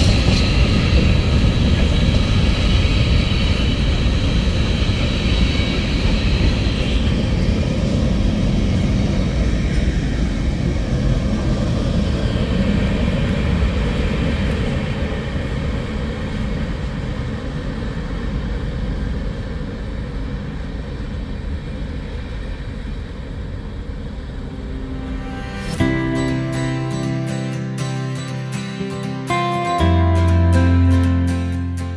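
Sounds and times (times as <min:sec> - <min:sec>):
freight train rumbling on rails: 0:00.0 - 0:31.9.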